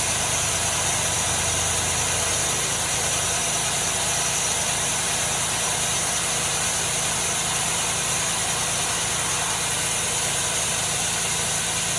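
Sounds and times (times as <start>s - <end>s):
sawmill machinery drone: 0.0s - 11.9s.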